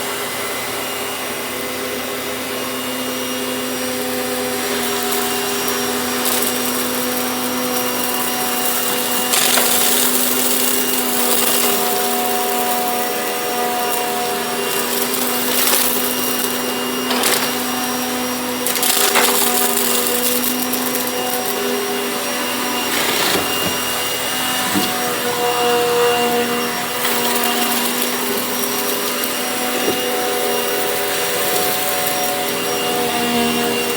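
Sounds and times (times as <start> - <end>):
sharp crackles or scrapes: 5.0 - 32.6.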